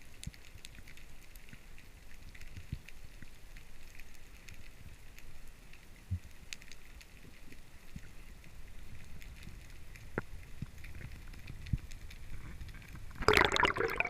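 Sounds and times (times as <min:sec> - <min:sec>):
faint crackling clicks underwater: 0:00.0 - 0:14.0.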